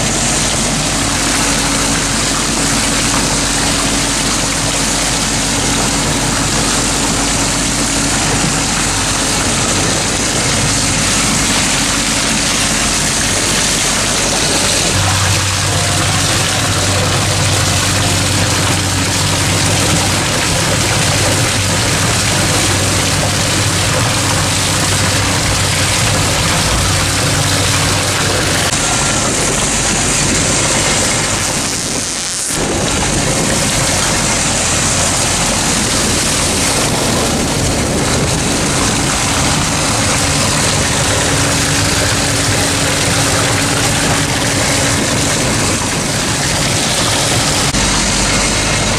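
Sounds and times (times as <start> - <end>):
engine running: 0.0 - 48.9
low hum: 0.0 - 48.9
water churning in tank: 0.0 - 48.9.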